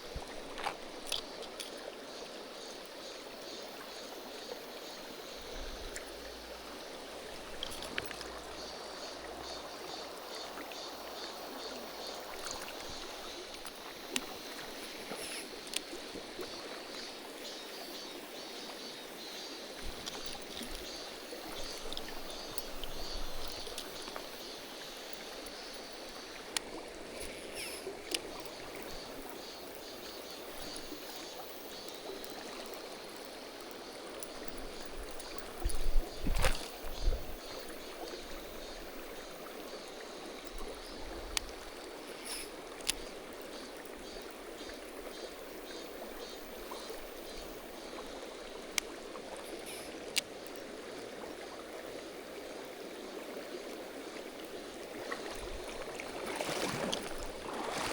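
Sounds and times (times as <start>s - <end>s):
stream water running: 0.0s - 57.9s.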